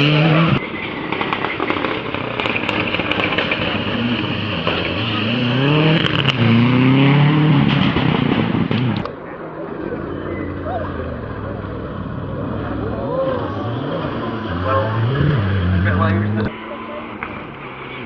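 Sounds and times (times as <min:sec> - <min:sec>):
rally car engine revving: 0:00.0 - 0:00.7, 0:01.3 - 0:18.0.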